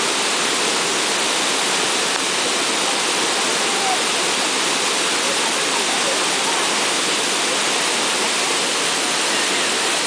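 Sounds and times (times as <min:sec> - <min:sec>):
waterfall rushing over rock: 0:00.0 - 0:10.0.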